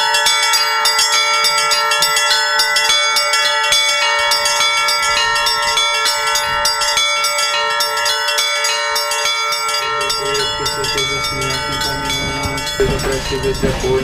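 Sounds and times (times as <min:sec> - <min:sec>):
large bells ringing: 0:00.0 - 0:14.0
small bells struck quickly: 0:00.0 - 0:14.0.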